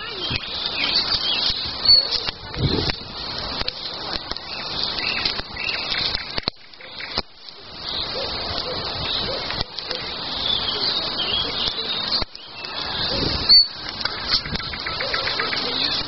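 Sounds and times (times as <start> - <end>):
birds chirping and whistling: 0.0 - 2.4, 3.3 - 16.0.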